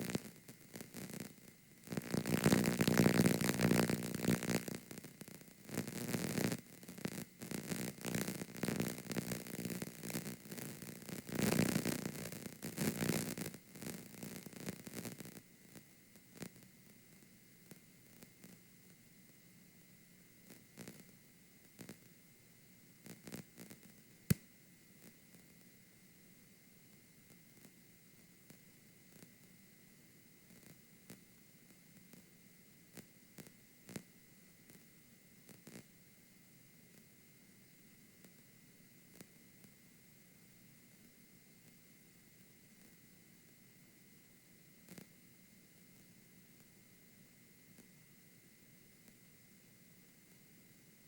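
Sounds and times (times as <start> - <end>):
crackling static and distortion: 0.0 - 24.4, 25.0 - 25.8, 26.8 - 36.1, 36.7 - 51.0
faint tape hiss: 0.0 - 51.0.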